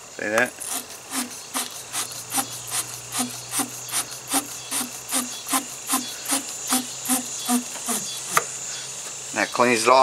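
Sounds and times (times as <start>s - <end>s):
wire brush scraping metal post: 0.5s - 8.5s.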